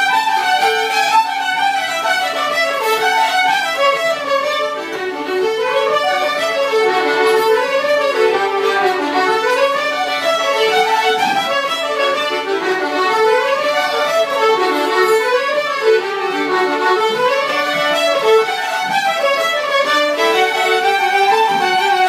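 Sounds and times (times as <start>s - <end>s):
fiddle playing fast melody: 0.0s - 22.0s.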